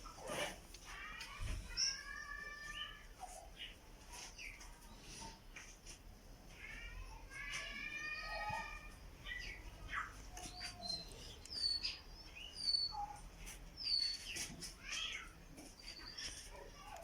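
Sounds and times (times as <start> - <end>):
canary chirping: 0.0 - 5.4, 6.5 - 17.0.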